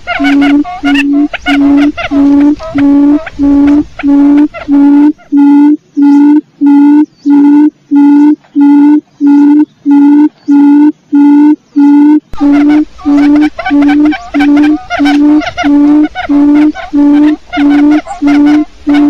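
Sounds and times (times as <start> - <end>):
low hooting quail call: 0.0 - 19.0
varied bird call: 0.0 - 19.0.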